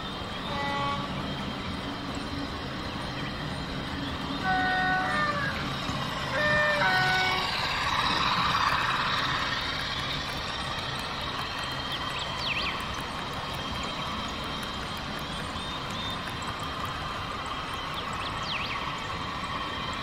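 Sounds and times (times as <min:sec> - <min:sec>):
model train rumbling: 0:00.0 - 0:20.0.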